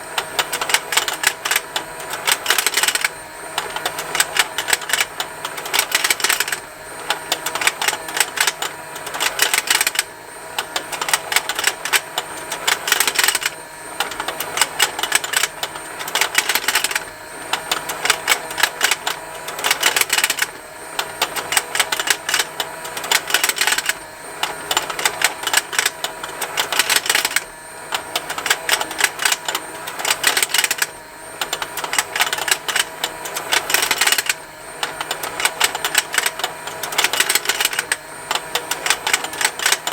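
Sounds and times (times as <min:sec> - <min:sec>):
toy motor and gears ticking: 0:00.2 - 0:39.9.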